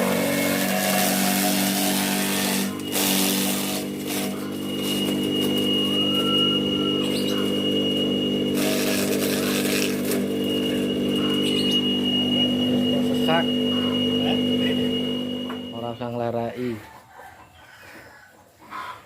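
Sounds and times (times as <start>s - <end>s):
electric motor humming: 0.0s - 16.3s.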